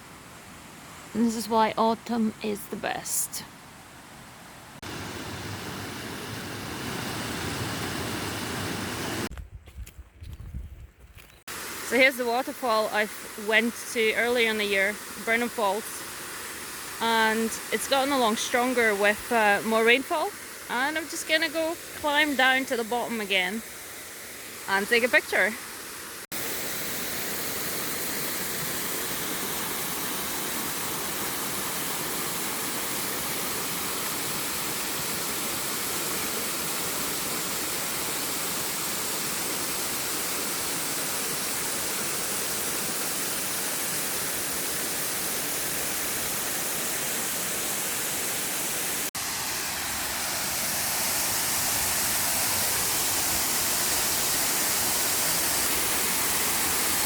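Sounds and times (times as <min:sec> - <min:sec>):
waterfall rushing: 0:04.8 - 0:09.3, 0:11.5 - 0:57.0.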